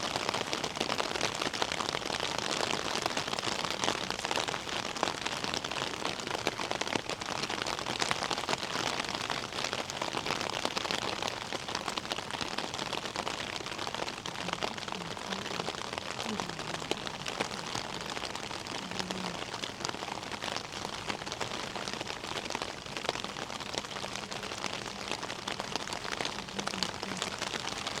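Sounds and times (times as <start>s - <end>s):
rain pattering on hard surfaces: 0.0s - 28.0s.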